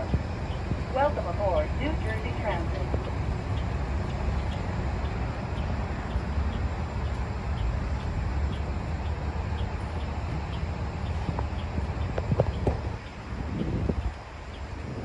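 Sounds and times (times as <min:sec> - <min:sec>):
bus diesel engine idling: 0:00.0 - 0:15.0
faint high ticking: 0:00.0 - 0:15.0.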